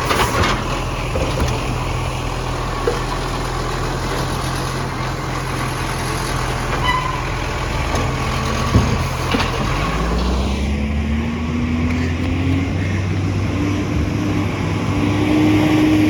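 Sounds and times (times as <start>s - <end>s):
diesel truck engine revving: 0.0s - 16.0s.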